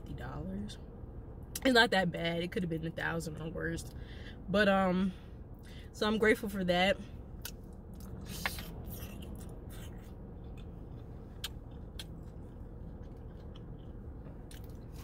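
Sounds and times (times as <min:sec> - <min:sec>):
low car cabin hum: 0:00.0 - 0:15.0.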